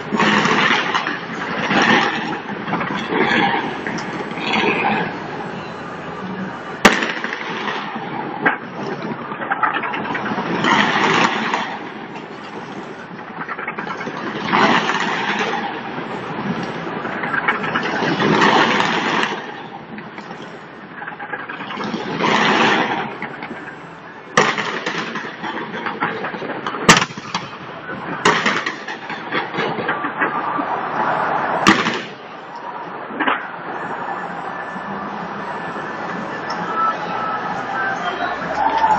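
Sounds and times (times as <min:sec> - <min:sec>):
fireworks sharp bangs: 0:00.0 - 0:30.6, 0:31.5 - 0:32.5.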